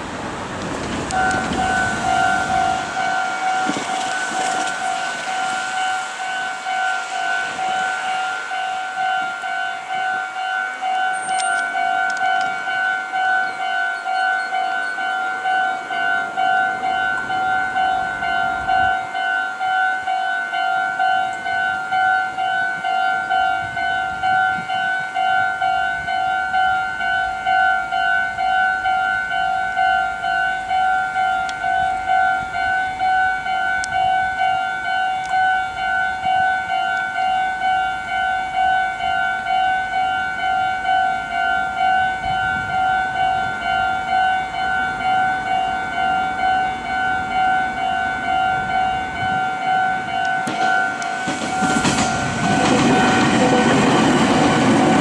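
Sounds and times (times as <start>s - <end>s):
level-crossing warning bell: 0.0s - 55.0s
train rumble and wheel noise: 0.0s - 55.0s.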